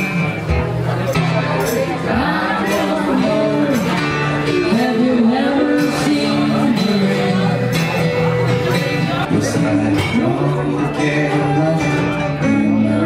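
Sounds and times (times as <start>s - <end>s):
acoustic guitar: 0.0s - 13.0s
person singing: 1.5s - 13.0s.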